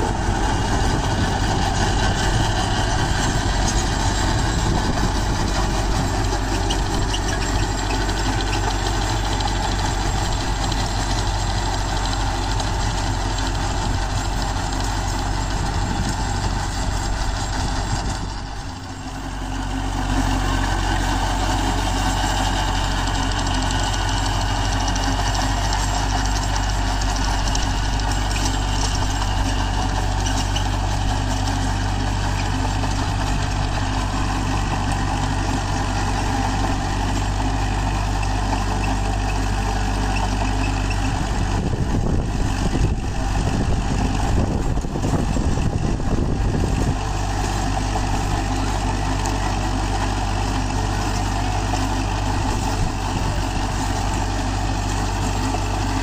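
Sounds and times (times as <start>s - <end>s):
tiller churning soil: 0.0s - 56.0s
tractor diesel engine running: 0.0s - 56.0s.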